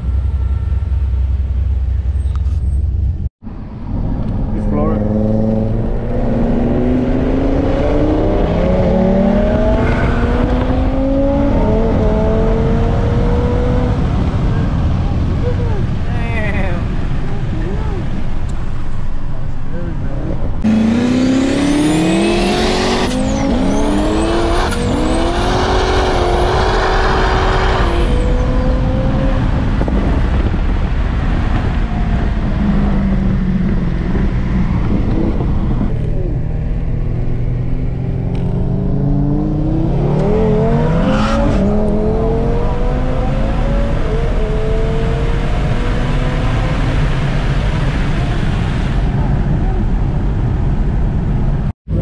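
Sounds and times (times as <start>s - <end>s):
car engine at full throttle: 0.0s - 52.0s.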